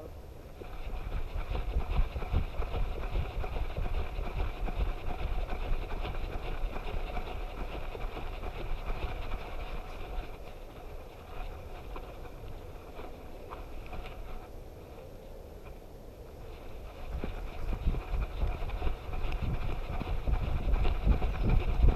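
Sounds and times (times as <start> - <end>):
wind buffeting microphone: 0.1 - 21.9.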